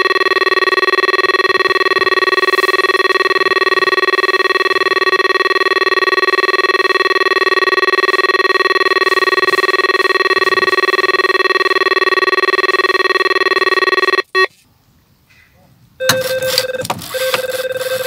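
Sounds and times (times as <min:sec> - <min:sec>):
bite alarm pulsing tone: 0:00.0 - 0:14.5, 0:16.0 - 0:18.0.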